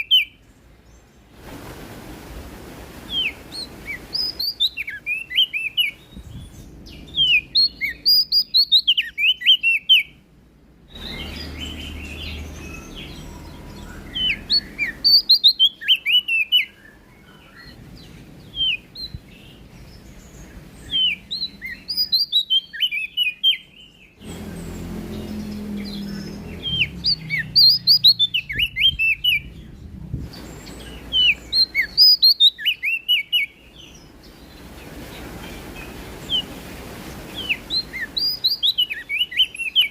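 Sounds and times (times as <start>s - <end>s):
songbird chirping: 0.0s - 1.4s, 3.0s - 39.9s.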